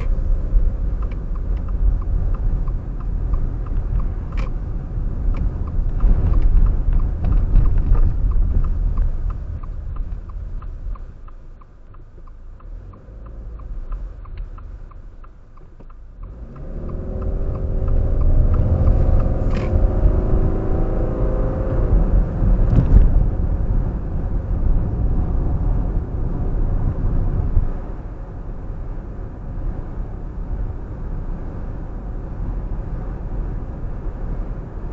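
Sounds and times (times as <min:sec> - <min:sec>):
light steady ticking: 0:00.0 - 0:29.0
car engine accelerating: 0:00.0 - 0:34.9
road and wind rumble: 0:00.0 - 0:34.9.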